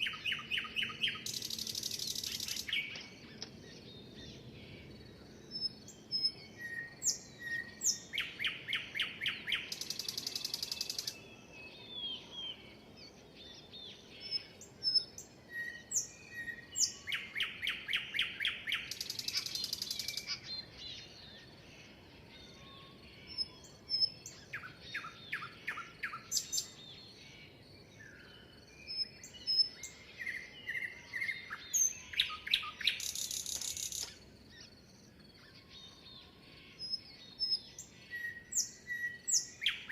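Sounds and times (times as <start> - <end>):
bird song with buzzy trill: 0.0 - 39.9
birds chirping and singing: 0.0 - 39.9.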